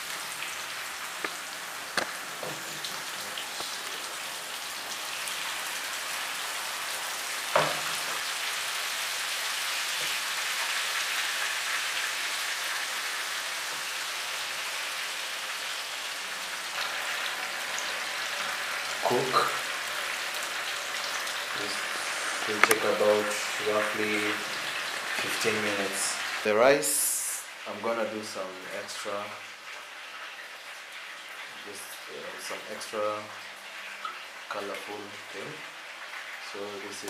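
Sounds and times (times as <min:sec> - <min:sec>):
chicken sizzling in hot oil: 0:00.0 - 0:27.6, 0:28.2 - 0:37.0.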